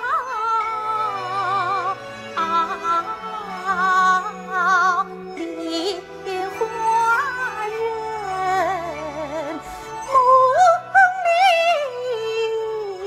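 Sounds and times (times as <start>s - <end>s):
instrumental accompaniment: 0.0s - 13.0s
opera singing voice: 0.0s - 13.0s.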